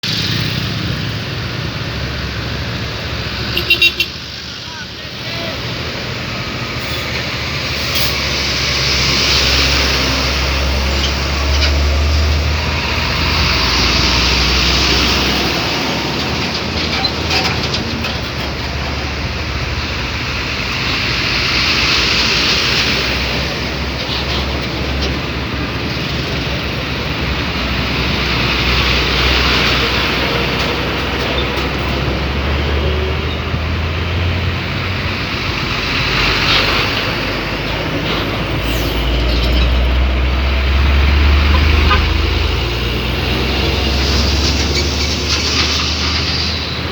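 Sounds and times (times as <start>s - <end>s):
dump truck engine running: 0.0s - 46.9s
road noise rumble: 0.0s - 46.9s.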